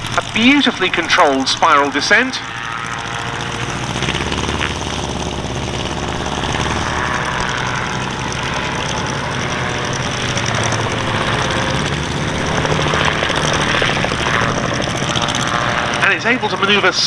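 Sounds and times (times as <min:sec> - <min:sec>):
aircraft engine and propeller: 0:00.0 - 0:17.0.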